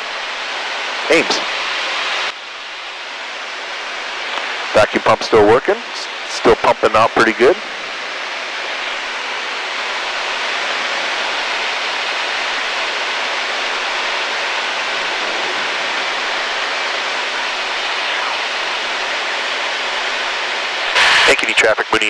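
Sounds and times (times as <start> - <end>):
aircraft engine and airflow hiss: 0.0 - 22.0.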